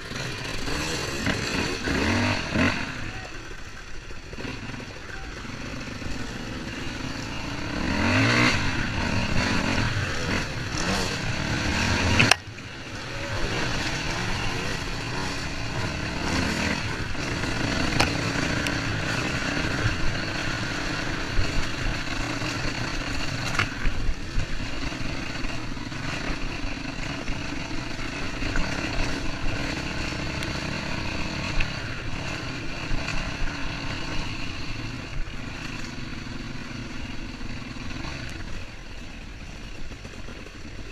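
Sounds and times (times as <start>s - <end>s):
two-stroke motocross engine revving: 0.0s - 40.9s.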